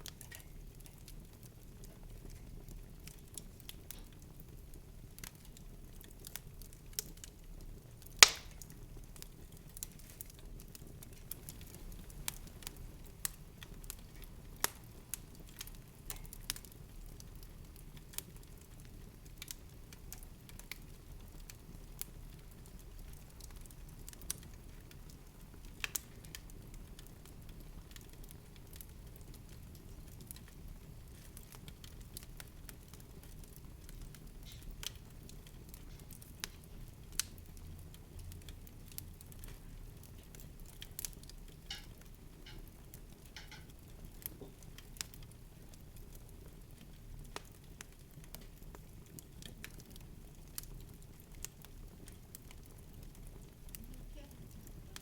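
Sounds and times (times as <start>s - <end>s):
light crackling and clicks: 0.0s - 55.0s.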